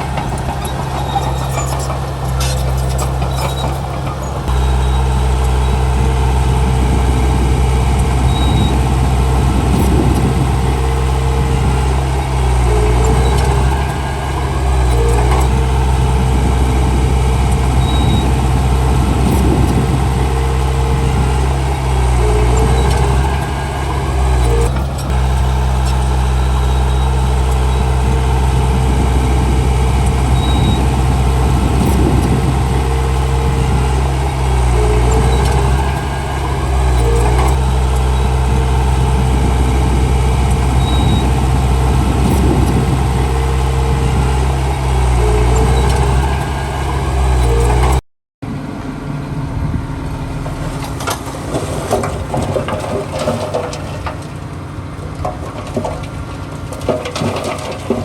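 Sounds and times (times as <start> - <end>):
clanks and crunches: 0.0 - 48.0, 50.1 - 58.0
heavy diesel engine running: 0.0 - 58.0.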